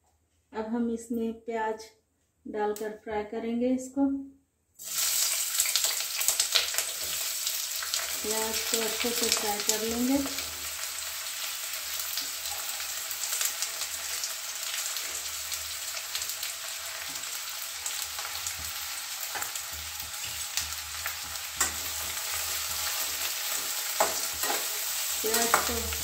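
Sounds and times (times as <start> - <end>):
onions sizzling in hot oil: 4.8 - 26.0.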